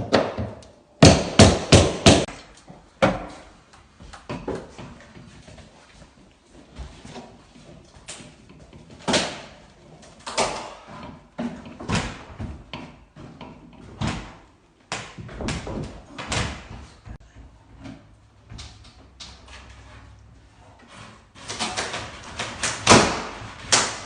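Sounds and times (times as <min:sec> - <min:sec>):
renovation knocks and thuds: 0:00.0 - 0:05.8, 0:06.6 - 0:20.0, 0:20.8 - 0:24.0.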